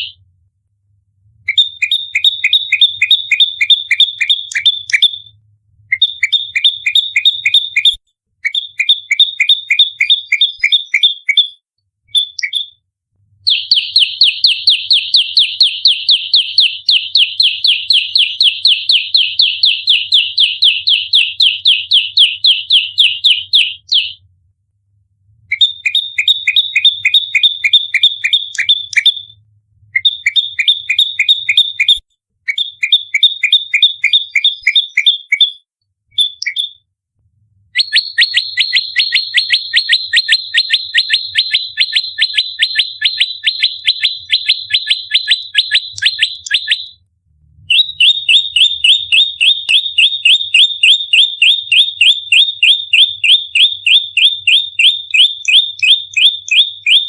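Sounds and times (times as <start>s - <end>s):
bird singing sharp high chirps: 0.0s - 0.2s, 1.5s - 12.8s, 13.5s - 24.2s, 25.5s - 29.4s, 30.0s - 36.8s, 37.8s - 47.0s, 47.7s - 57.0s.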